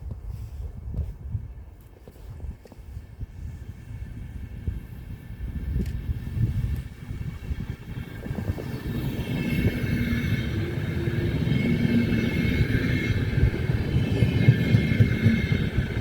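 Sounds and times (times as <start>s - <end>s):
train rumbling: 3.2s - 16.0s.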